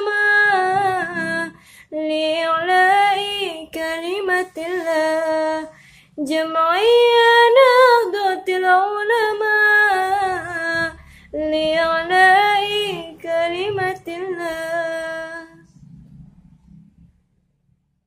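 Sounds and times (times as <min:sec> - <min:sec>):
woman singing unaccompanied: 0:00.0 - 0:15.7.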